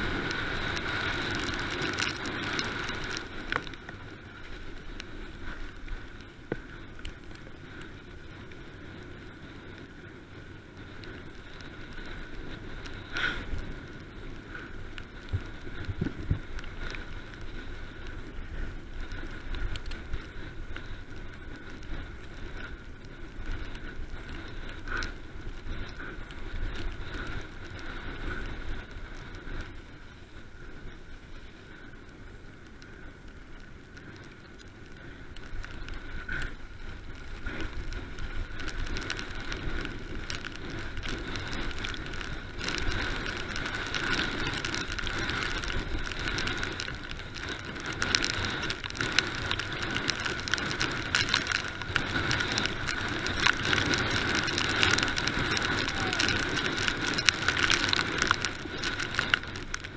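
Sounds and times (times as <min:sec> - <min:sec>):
bike rattling over bumps: 0:00.0 - 0:31.7, 0:33.1 - 0:59.9
bike tyres crunching on gravel: 0:00.0 - 0:59.9
steady rushing noise: 0:00.0 - 0:59.9.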